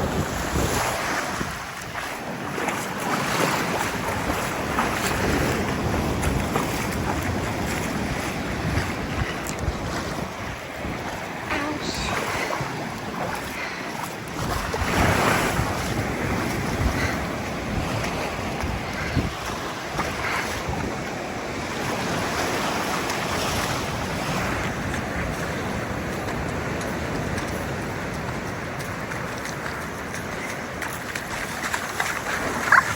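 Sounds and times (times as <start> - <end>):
ocean waves on a sandy shore: 0.0 - 32.9
wind buffeting microphone: 0.0 - 32.9.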